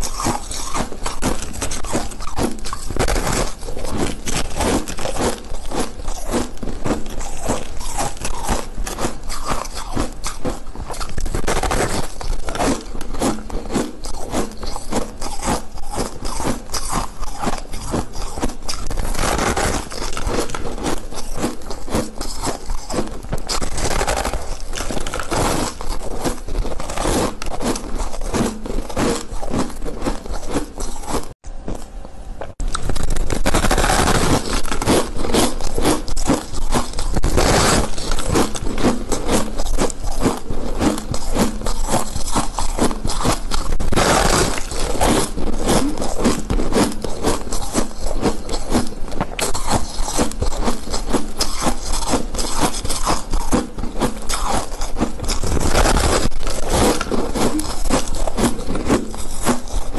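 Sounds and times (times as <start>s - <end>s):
ice being crunched and chewed: 0.0s - 31.9s, 32.6s - 59.9s.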